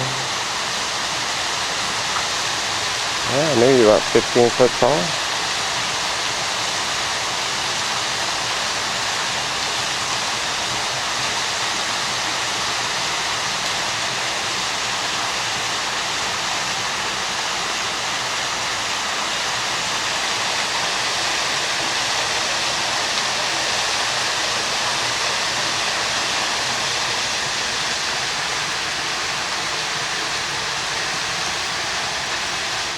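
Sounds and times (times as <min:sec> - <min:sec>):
waterfall into pool: 0:00.0 - 0:32.9.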